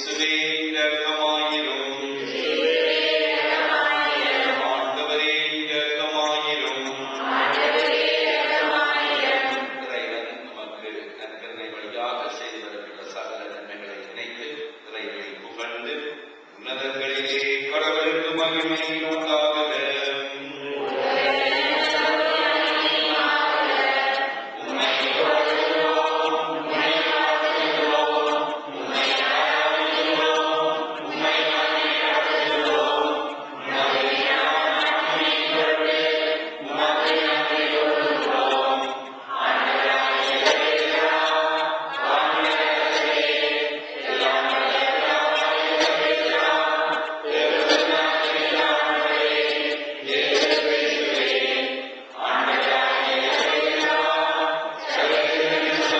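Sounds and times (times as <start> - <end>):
church choir singing a hymn: 0.0 - 14.4, 16.7 - 55.9.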